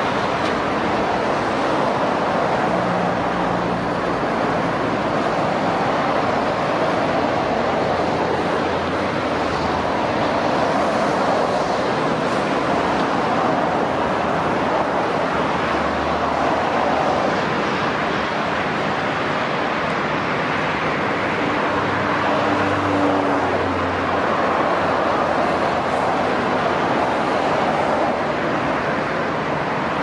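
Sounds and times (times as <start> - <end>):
engine and traffic noise: 0.0 - 30.0.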